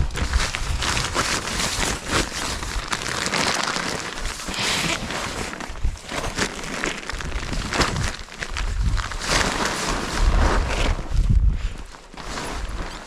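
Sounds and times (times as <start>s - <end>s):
clicks and crunches: 0.0s - 11.1s
rustling and crackling: 0.0s - 13.0s.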